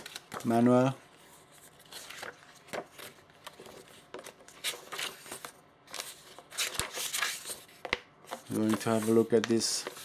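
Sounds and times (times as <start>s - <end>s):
paper and packaging rustling: 0.0s - 10.0s.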